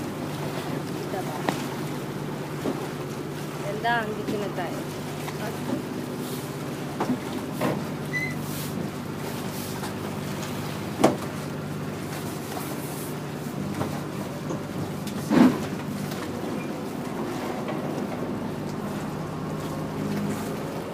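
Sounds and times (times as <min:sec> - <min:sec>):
boat engine running: 0:00.0 - 0:20.9
water noise: 0:00.0 - 0:20.9
wind: 0:00.0 - 0:20.9.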